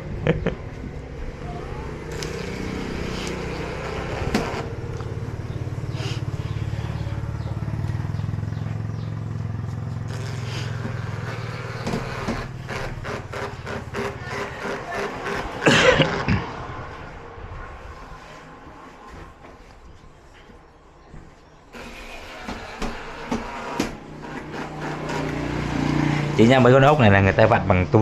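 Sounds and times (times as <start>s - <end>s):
low motor hum: 0.0s - 26.4s.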